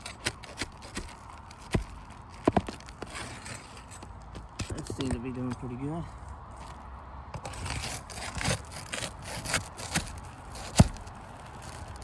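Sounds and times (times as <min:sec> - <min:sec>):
shingle scraping and crackling: 0:00.0 - 0:12.0.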